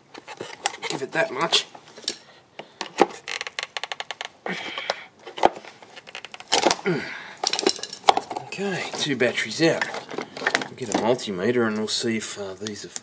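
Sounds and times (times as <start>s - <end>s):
scraping and handling: 0.0s - 12.9s.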